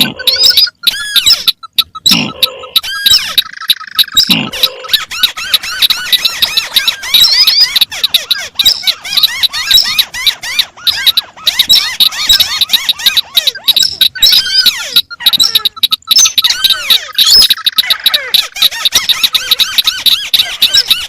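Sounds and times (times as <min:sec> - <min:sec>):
crakes chattering: 0:00.0 - 0:21.0.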